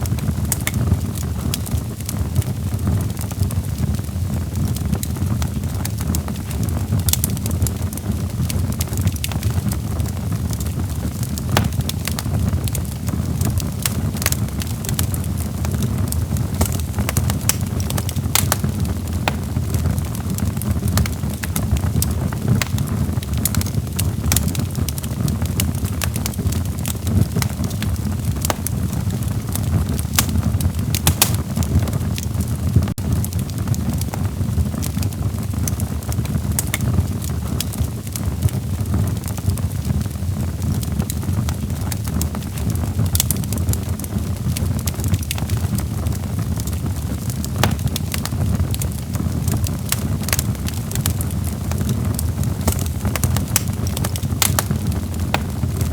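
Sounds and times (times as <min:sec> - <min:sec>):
log fire crackling: 0:00.0 - 0:55.9.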